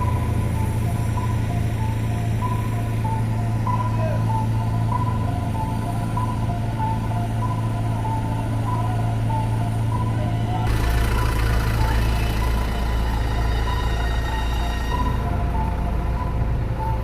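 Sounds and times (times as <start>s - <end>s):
deep rumble: 0.0s - 17.0s
vehicle engine running: 0.0s - 17.0s.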